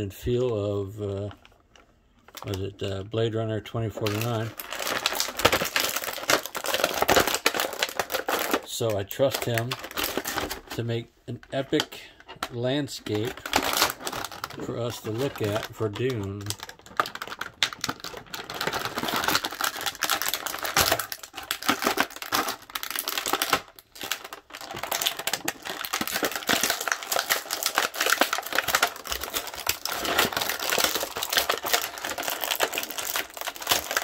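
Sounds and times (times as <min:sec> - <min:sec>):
plastic packaging crinkling: 0:00.0 - 0:34.0.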